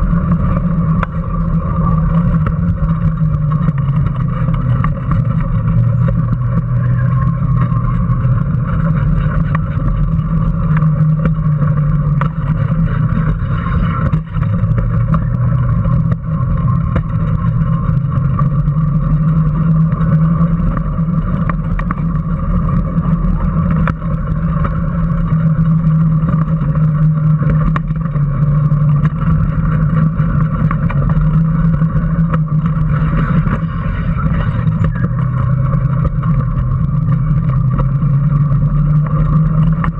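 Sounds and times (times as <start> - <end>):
electric motor drone: 0.0 - 39.9
road and wind noise: 0.0 - 39.9.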